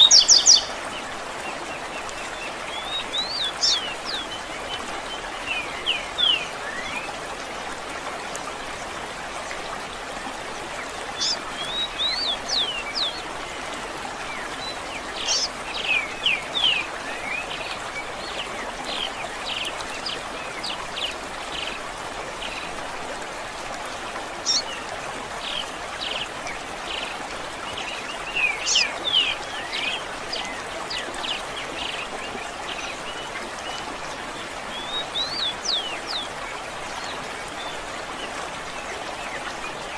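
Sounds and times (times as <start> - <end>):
songbirds chirping: 0.0 - 7.6, 10.2 - 22.8, 23.9 - 39.9
running water: 0.0 - 39.9.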